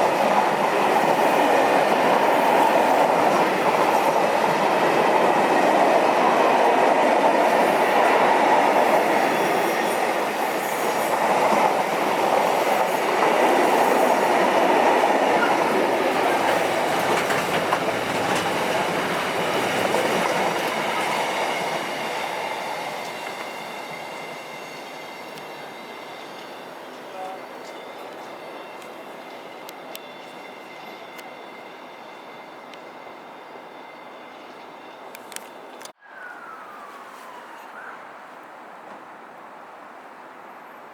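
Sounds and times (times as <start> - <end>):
train passing on rails: 0.0 - 40.9.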